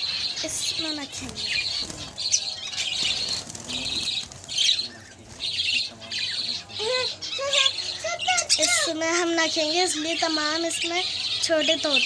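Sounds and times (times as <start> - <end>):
budgerigars chattering and squawking: 0.0 - 12.0.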